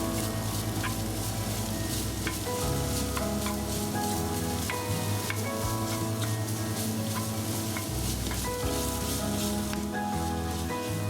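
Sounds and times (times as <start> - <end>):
background music with held notes: 0.0 - 11.0
food sizzling in oil: 0.0 - 11.0.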